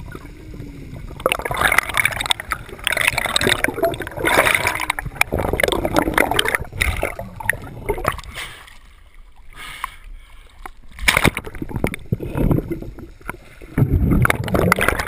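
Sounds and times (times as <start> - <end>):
air bubbles gurgling underwater: 0.0 - 8.4, 11.2 - 15.0.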